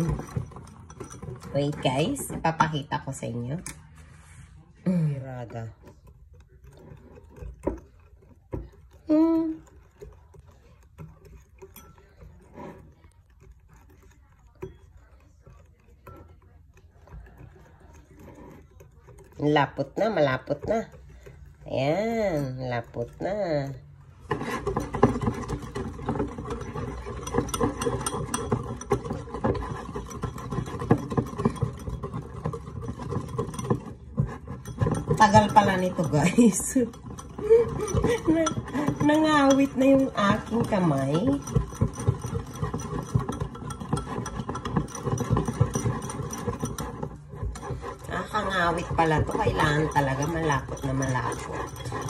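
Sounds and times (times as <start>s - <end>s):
whisk beating thick mixture: 0.0s - 52.0s
whisk tapping ceramic bowl: 0.0s - 52.0s.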